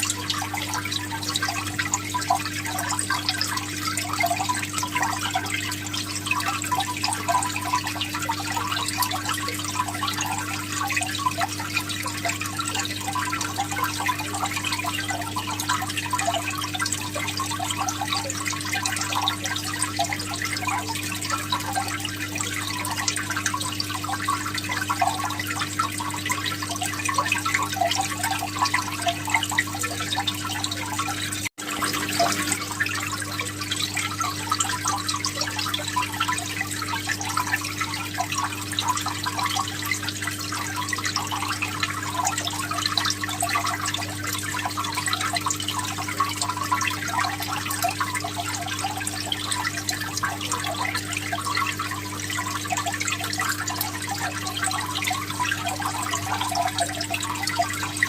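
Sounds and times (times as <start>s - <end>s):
water trickling and bubbling: 0.0s - 58.0s.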